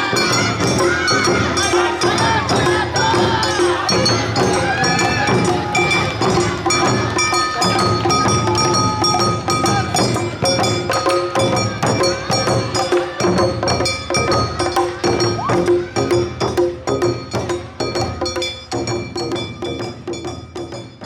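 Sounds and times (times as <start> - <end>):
bamboo flute melody: 0.0 - 20.9
percussion strikes: 0.0 - 21.0.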